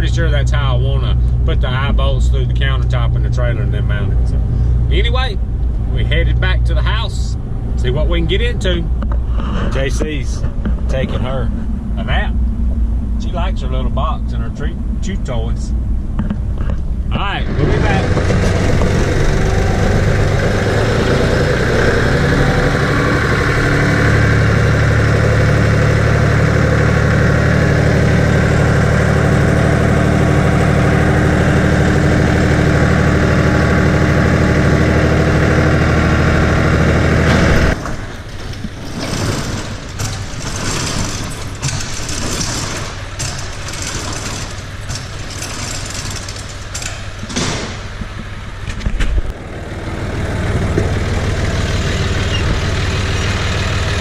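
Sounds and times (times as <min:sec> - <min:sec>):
low engine hum: 0:00.0 - 0:54.0
vehicle engine and road noise: 0:00.0 - 0:54.0.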